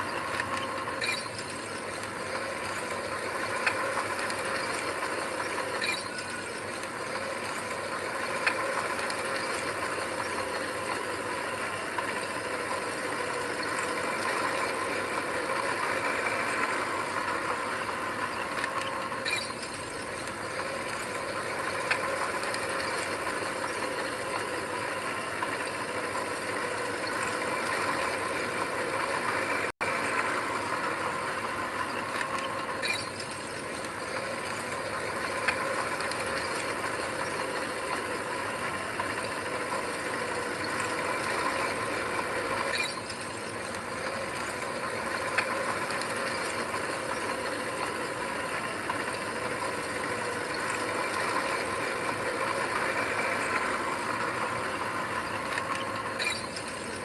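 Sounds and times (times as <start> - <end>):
heavy machinery running: 0.0 - 57.0.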